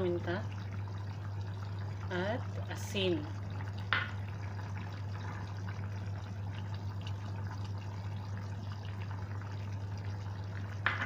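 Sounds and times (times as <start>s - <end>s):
broth bubbling in saucepan: 0.0s - 11.0s.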